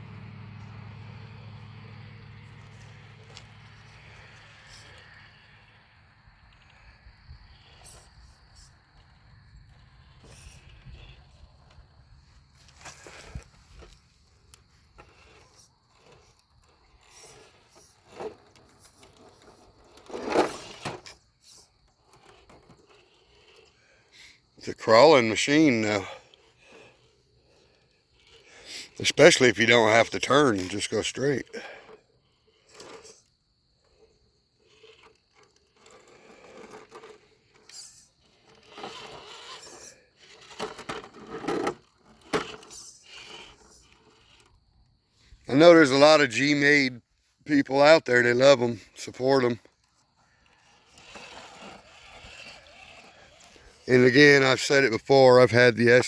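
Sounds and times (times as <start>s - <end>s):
toy truck scraping over obstacle: 0.2s - 56.0s.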